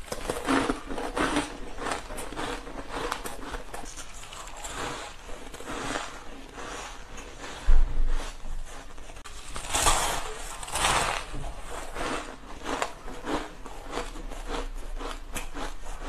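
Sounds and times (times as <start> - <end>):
crushed ice being crunched: 0.0 - 6.8, 9.4 - 15.7.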